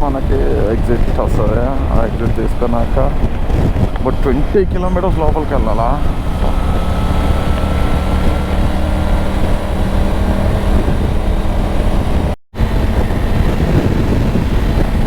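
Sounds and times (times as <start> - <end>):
motorcycle engine cruising: 0.0 - 15.0
wind noise on microphone: 0.0 - 15.0.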